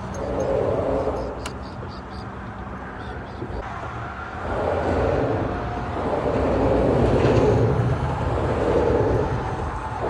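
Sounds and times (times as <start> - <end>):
traffic drone on bridge: 0.0 - 10.0.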